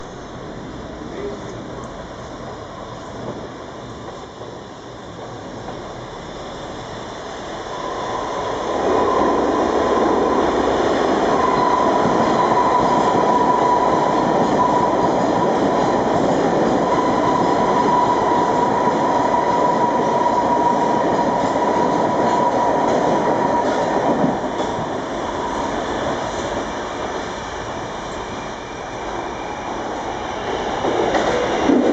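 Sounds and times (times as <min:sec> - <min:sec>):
subway train passing: 0:00.0 - 0:31.9.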